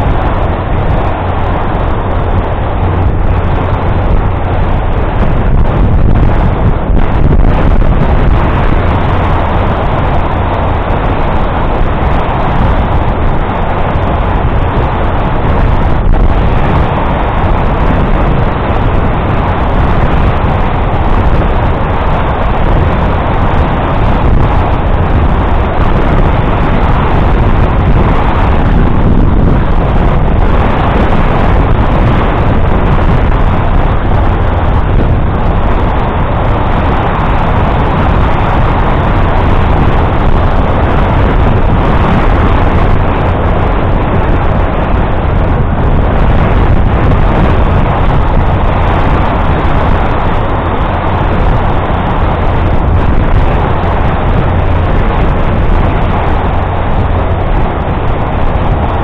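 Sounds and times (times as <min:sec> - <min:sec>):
wind noise on microphone: 0:00.0 - 0:59.0.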